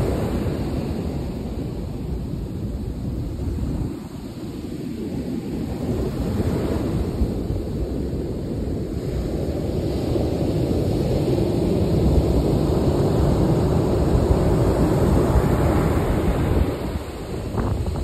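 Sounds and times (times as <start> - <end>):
surf washing on beach: 0.0 - 18.0
wind rumbling on microphone: 0.0 - 18.0.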